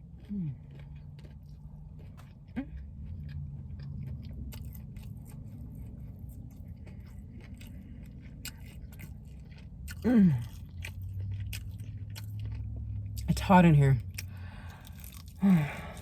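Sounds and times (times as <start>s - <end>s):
chewing crispy fried chicken: 0.0s - 16.0s.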